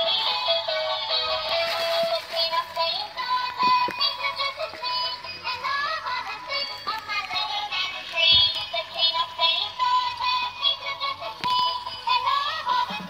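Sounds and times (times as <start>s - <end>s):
tinny electronic toy melody: 0.0s - 13.0s
synthesized singing voice: 0.2s - 13.0s.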